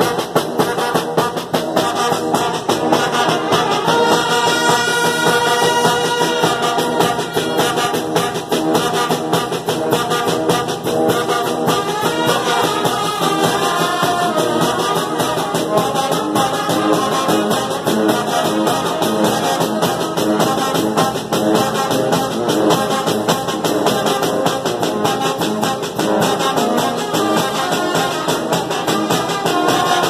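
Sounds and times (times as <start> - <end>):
brass band playing: 0.0 - 30.0
snare and bass drum beats: 0.0 - 30.0.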